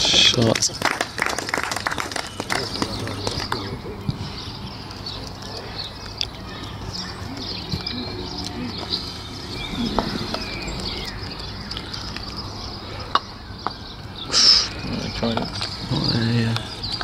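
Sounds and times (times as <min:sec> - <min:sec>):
birds chirping: 0:00.0 - 0:17.0
faint outdoor murmur: 0:00.0 - 0:17.0.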